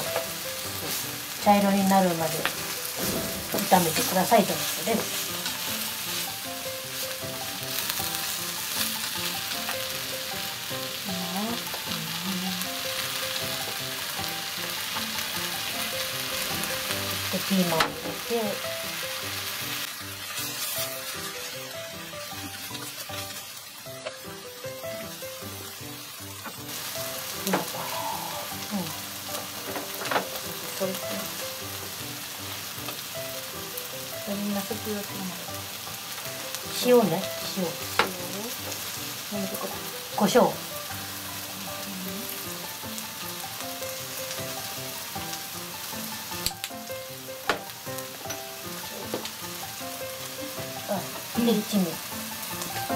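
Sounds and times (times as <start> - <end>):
meat sizzling in oil: 0.0 - 52.9.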